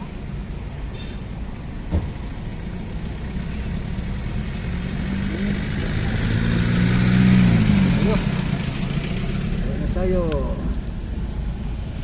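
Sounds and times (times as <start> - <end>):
vehicle engine running: 1.7 - 12.0.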